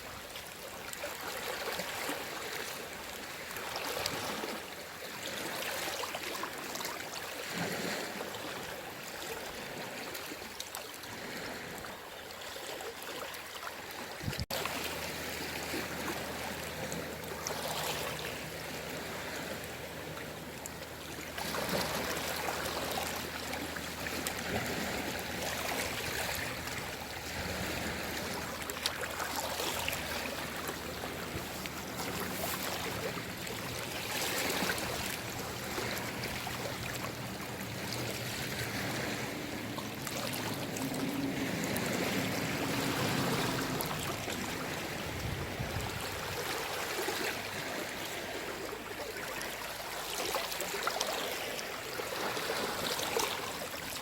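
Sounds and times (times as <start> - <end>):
faint water trickling: 0.0 - 54.0
small waves washing onto shore: 0.0 - 54.0.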